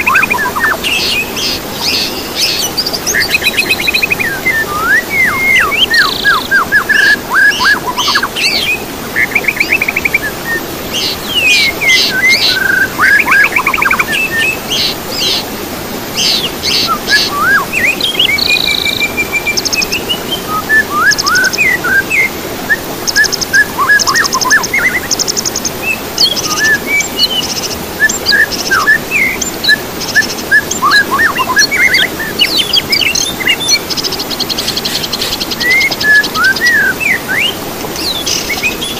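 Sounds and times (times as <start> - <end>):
songbirds singing and calling: 0.0 - 38.9
steady background hiss: 0.0 - 38.9.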